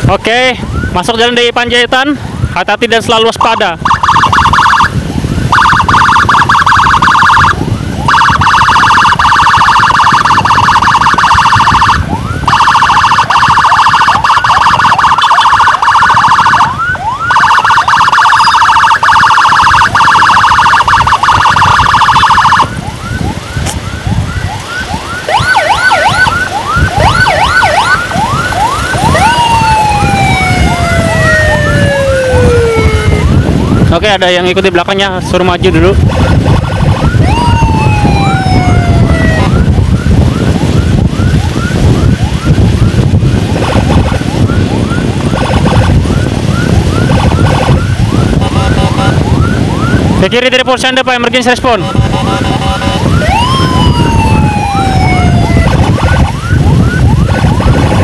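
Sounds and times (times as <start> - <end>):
emergency siren: 0.0 - 58.0
engine and wind rumble: 0.0 - 58.0.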